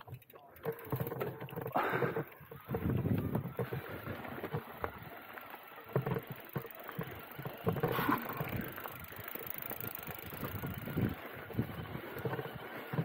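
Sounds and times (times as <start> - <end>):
bike rattling over bumps: 0.0 - 13.0
tyres crunching on gravel: 0.0 - 13.0.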